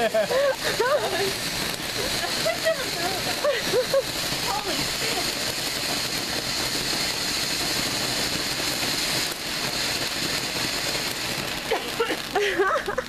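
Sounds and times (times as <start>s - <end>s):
fountain fireworks hissing: 0.0s - 13.0s.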